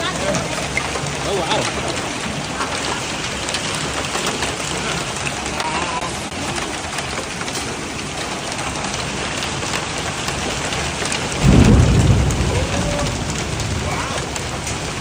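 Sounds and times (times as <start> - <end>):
heavy hail pelting down: 0.0 - 15.0.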